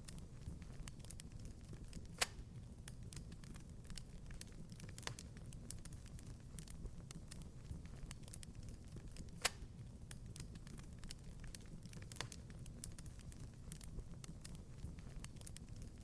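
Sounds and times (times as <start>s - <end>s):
wood fire crackling: 0.0s - 16.0s
fire sharp pops: 0.1s - 16.0s.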